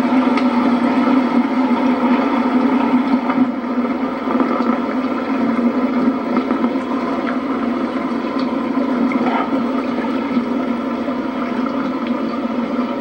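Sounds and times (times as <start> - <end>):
boat engine droning: 0.0 - 13.0
water noise: 0.0 - 13.0.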